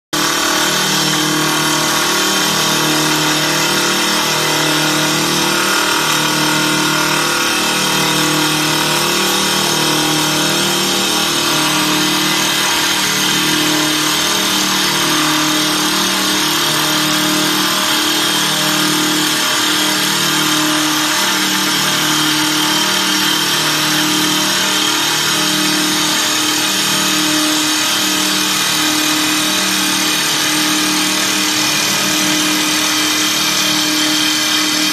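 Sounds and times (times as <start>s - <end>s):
wood lathe running: 0.2s - 34.9s.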